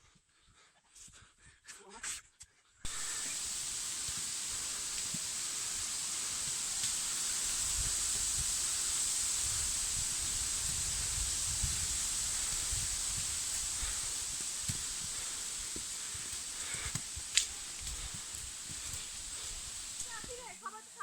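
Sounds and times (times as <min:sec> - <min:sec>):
wind buffeting microphone: 0:02.9 - 0:20.4
waterfall rushing: 0:02.9 - 0:21.0.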